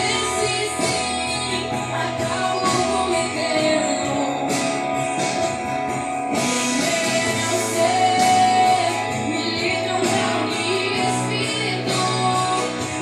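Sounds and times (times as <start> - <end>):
guitar: 0.0 - 13.0
person singing: 0.0 - 13.0.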